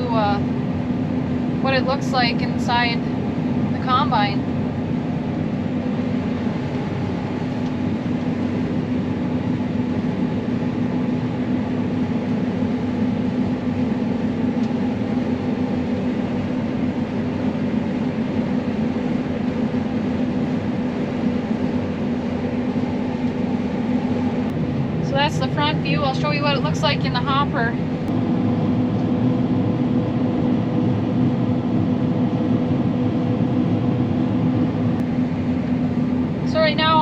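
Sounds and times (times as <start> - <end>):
combine harvester engine drone: 0.0 - 37.0.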